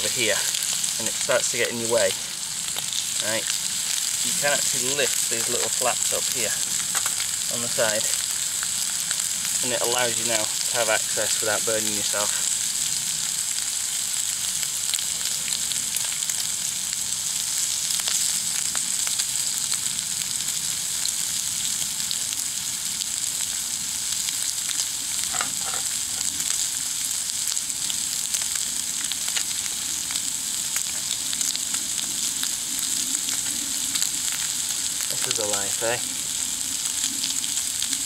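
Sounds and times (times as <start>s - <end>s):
bacon sizzling and popping: 0.0s - 38.0s.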